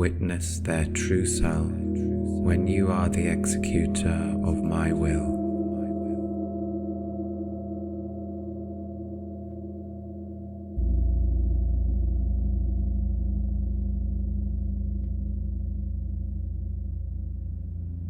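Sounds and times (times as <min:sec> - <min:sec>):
gong ringing: 0:00.0 - 0:16.5
deep low ringing tone: 0:00.0 - 0:18.0.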